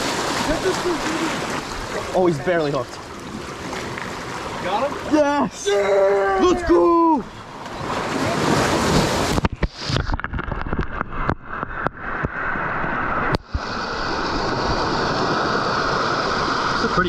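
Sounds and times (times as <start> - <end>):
surf washing onto beach: 0.0 - 5.6, 6.7 - 17.0.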